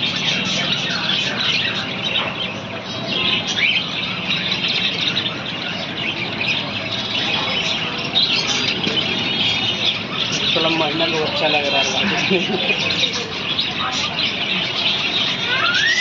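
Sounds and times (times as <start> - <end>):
parrots chirping and chattering: 0.0 - 16.0.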